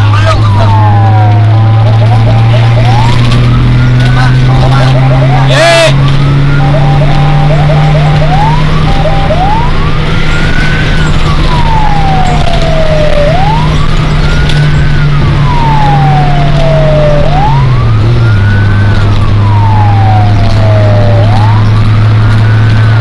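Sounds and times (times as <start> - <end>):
fire truck siren wailing: 0.0 - 23.0
truck engine droning: 0.0 - 23.0.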